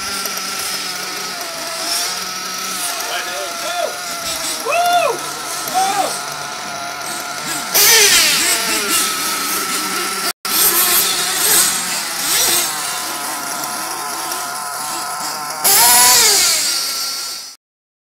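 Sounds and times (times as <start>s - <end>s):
model buggy engines whining: 0.0s - 17.6s.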